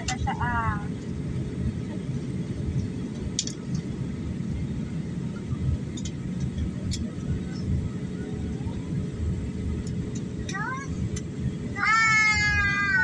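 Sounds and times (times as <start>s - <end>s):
airliner cabin rumble: 0.0s - 13.0s
faint steady hum: 0.0s - 13.0s.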